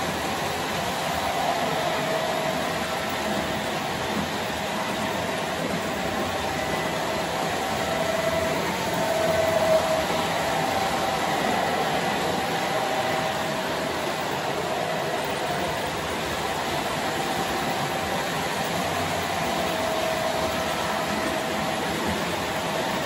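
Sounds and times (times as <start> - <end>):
faint whine: 0.0 - 23.0
locomotive motors humming: 0.0 - 23.0
train wheels rolling on track: 0.0 - 23.0.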